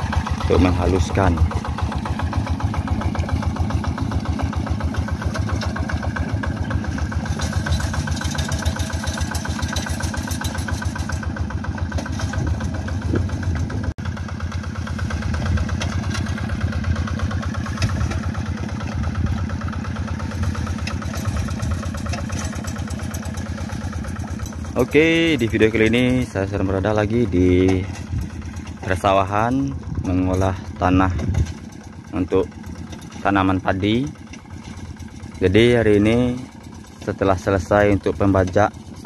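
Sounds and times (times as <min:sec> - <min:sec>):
hand tractor engine running: 0:00.0 - 0:39.0.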